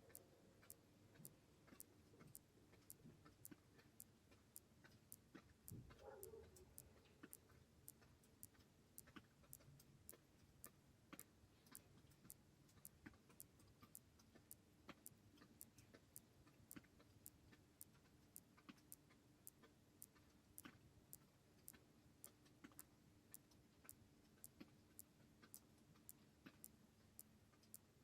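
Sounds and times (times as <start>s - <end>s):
faint even ticking: 0.0s - 27.9s.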